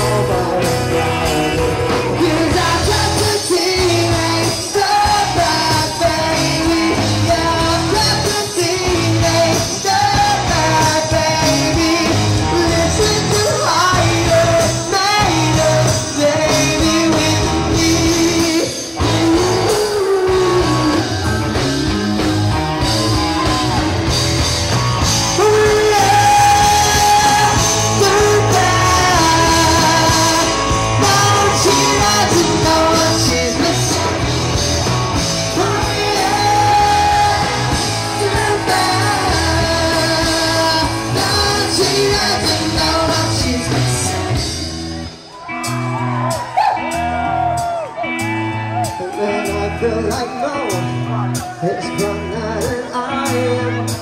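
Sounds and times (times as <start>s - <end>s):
man singing: 0.0s - 21.6s, 25.2s - 44.7s, 48.8s - 54.0s
live rock band playing: 0.0s - 54.0s.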